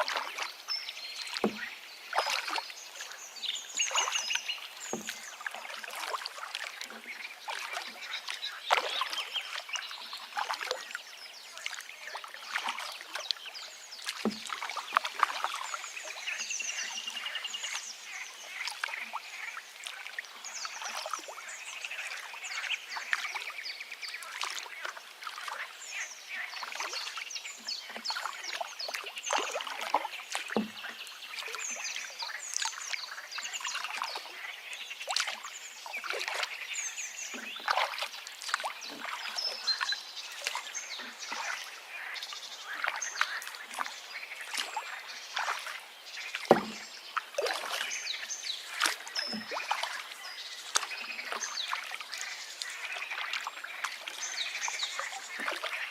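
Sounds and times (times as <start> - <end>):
deep water plops: 0.0 - 0.6, 1.2 - 17.8, 18.4 - 36.6, 37.2 - 55.9
river babbling and splashing: 0.0 - 55.9
small birds chirping: 0.2 - 55.9.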